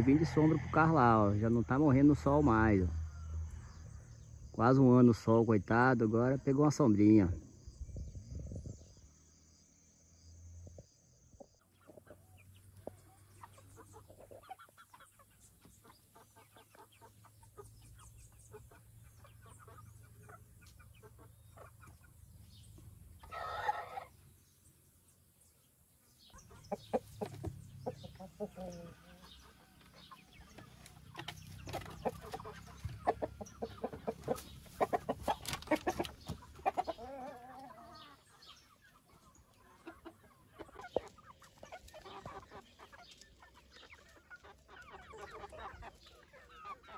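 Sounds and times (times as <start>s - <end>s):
chickens clucking: 0.0s - 9.0s, 10.8s - 46.9s.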